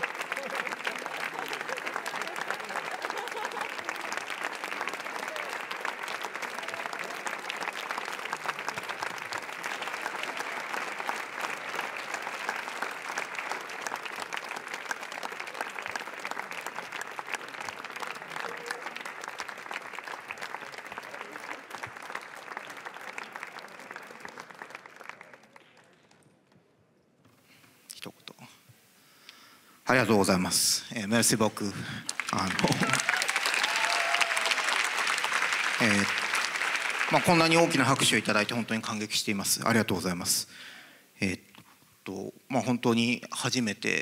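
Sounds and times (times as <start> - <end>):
audience applauding: 0.0 - 26.3, 31.2 - 40.2.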